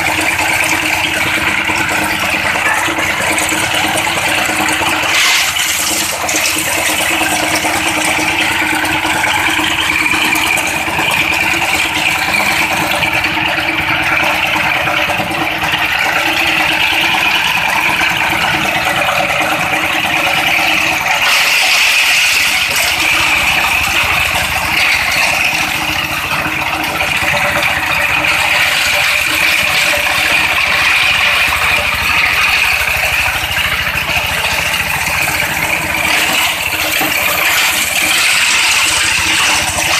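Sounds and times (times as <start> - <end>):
grinder crushing tiles rattling: 0.0 - 15.5, 16.1 - 39.9
diesel engine running: 0.0 - 39.9.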